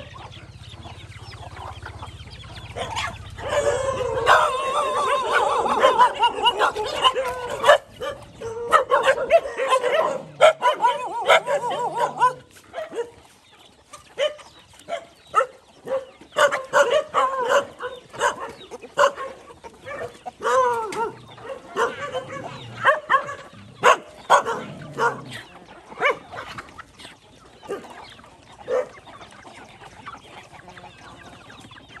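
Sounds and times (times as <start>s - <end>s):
chickens clucking: 0.0s - 32.0s
dogs barking and squabbling: 0.0s - 32.0s.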